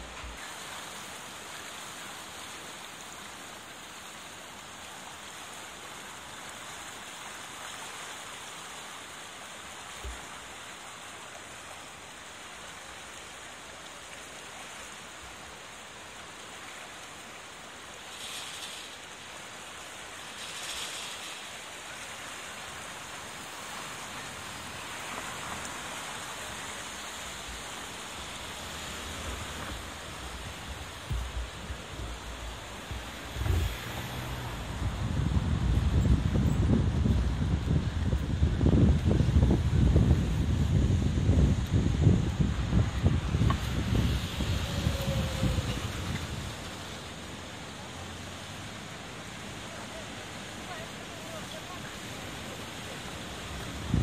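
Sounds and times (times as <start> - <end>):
flooded river rushing: 0.0 - 54.0.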